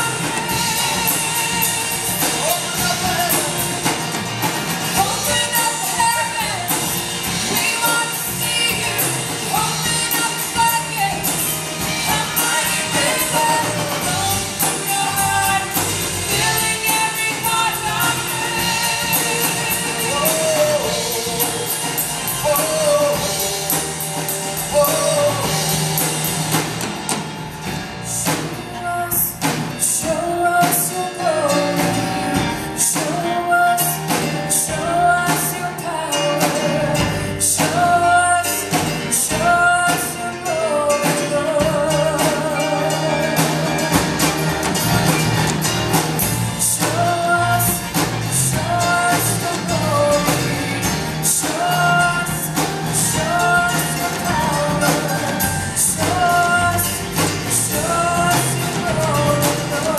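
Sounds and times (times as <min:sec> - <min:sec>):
woman singing with vibrato: 0:00.0 - 0:26.4, 0:28.0 - 0:59.9
acoustic guitar: 0:00.0 - 0:59.9
bass guitar: 0:00.0 - 0:59.9
drum kit: 0:00.0 - 0:59.9
keyboard: 0:00.0 - 0:59.9.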